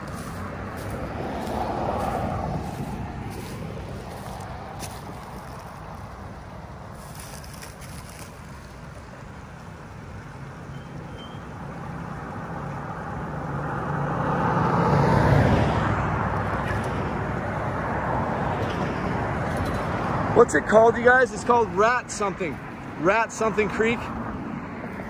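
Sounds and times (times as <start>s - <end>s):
background traffic noise: 0.0s - 25.0s
vehicle passing by: 0.0s - 25.0s.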